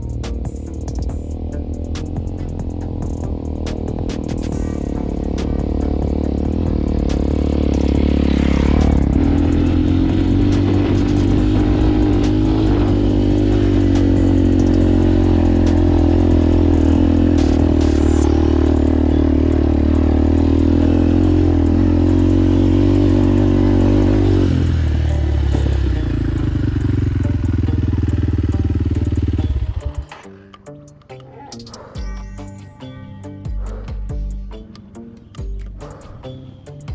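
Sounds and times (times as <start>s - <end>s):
motorcycle engine running: 0.0s - 30.3s.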